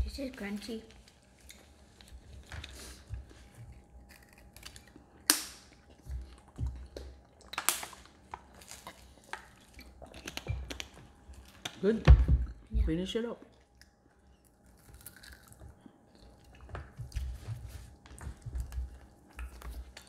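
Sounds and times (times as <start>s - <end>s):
crunchy pie being chewed: 0.9s - 11.8s, 13.4s - 20.0s.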